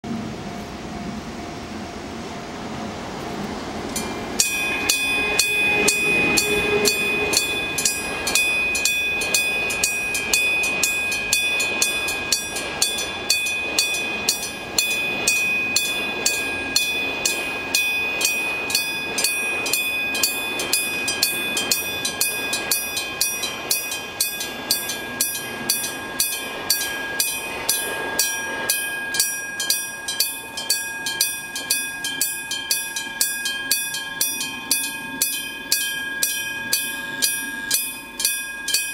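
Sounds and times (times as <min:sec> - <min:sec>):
electric train pulling away: 0:00.1 - 0:38.9
level crossing bell ringing: 0:04.0 - 0:38.9.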